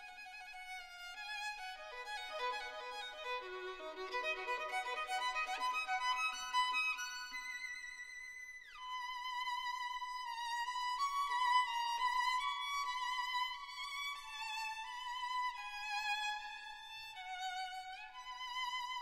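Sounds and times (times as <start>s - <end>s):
slow violin melody: 0.0s - 19.0s.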